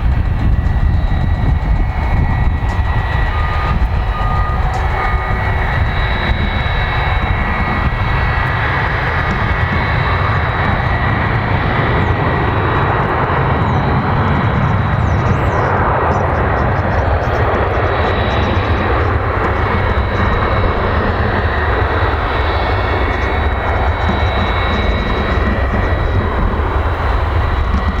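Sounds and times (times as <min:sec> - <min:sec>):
jet engines at takeoff power: 0:00.0 - 0:28.0.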